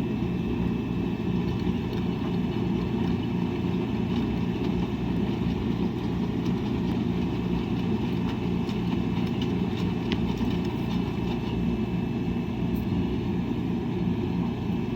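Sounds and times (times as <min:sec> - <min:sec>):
washing machine drone: 0:00.0 - 0:14.9.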